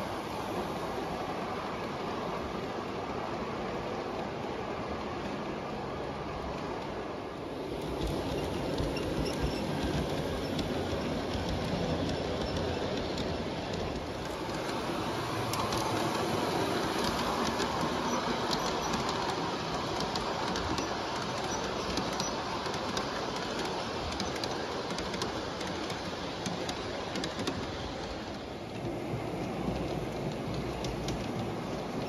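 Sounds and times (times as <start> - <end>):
model train wheels rumbling: 6.3 - 32.0.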